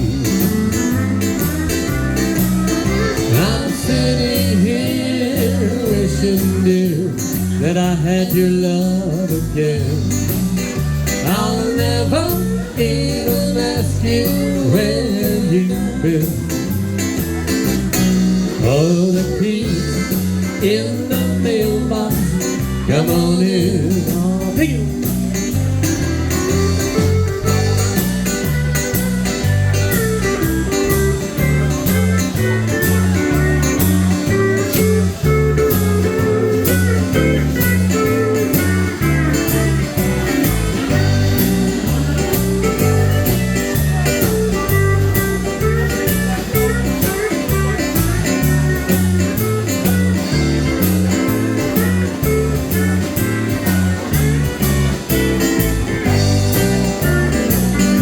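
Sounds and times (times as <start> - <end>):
bass line: 0.0 - 58.0
drum beat: 0.0 - 58.0
lead guitar: 0.0 - 58.0.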